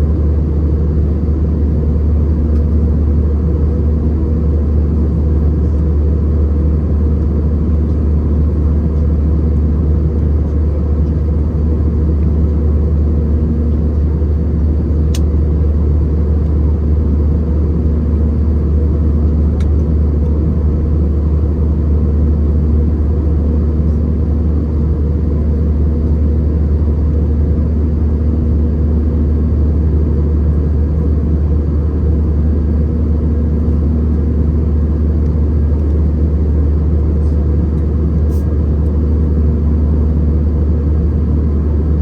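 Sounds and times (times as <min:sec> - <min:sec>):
airplane cabin drone: 0:00.0 - 0:42.0.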